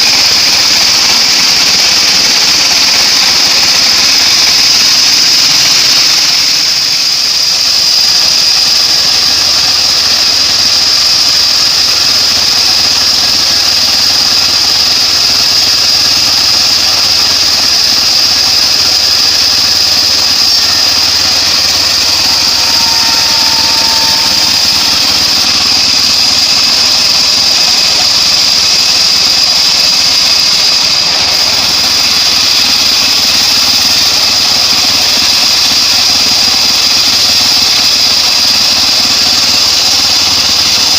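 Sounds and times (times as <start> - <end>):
bandsaw sawmill running: 0.0 - 40.9.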